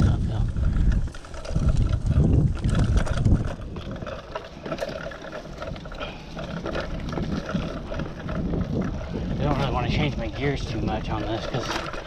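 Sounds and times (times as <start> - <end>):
bike rattles and clicks: 0.0 - 12.0
tyres on leaves and dirt: 0.0 - 12.0
wind rumbling on microphone: 0.0 - 12.0.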